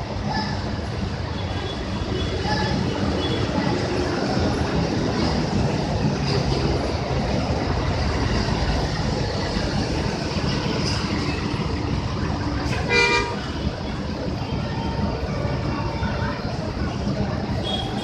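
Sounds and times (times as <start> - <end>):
bus engines and traffic rumble: 0.0 - 18.0.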